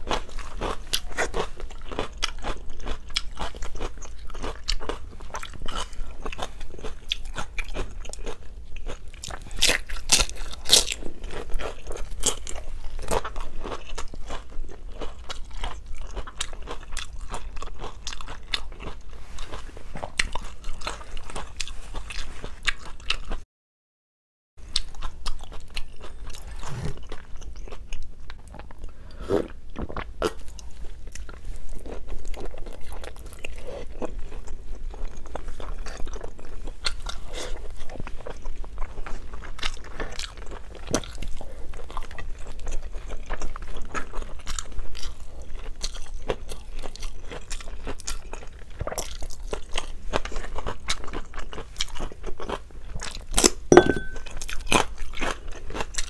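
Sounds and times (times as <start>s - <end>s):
person chewing crunchy food: 0.0s - 23.4s, 24.6s - 56.0s.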